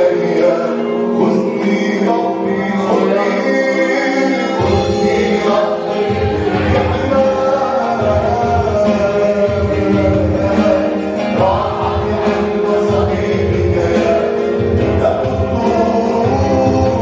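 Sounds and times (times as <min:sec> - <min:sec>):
instrumental backing with beat: 0:00.0 - 0:17.0
voices singing worship song: 0:00.0 - 0:17.0.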